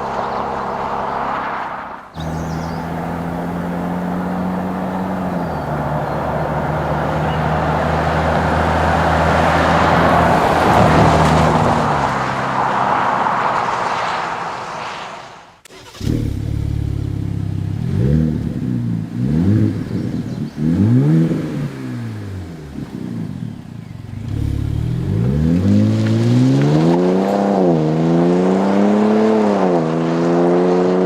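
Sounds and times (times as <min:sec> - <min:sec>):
road and wind noise: 0:00.0 - 0:31.0
truck engine and exhaust: 0:00.0 - 0:31.0.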